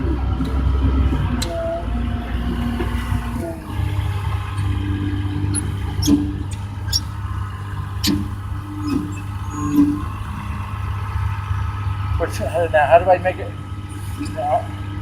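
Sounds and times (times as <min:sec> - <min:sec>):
bulldozer diesel engine running: 0:00.0 - 0:15.0
track clanks and squeals: 0:00.0 - 0:15.0.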